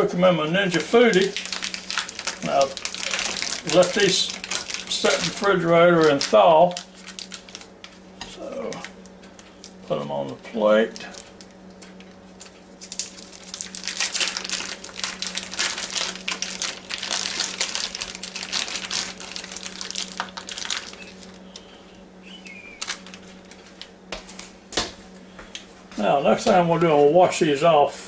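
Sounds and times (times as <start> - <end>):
low hum: 0.0 - 24.5
plastic packaging crinkling: 0.6 - 9.8, 10.8 - 24.5.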